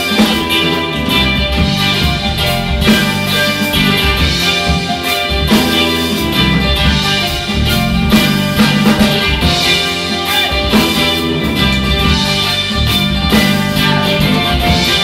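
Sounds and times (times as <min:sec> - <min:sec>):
bass guitar: 0:00.0 - 0:15.0
drum kit beat: 0:00.0 - 0:15.0
guitar: 0:00.0 - 0:15.0.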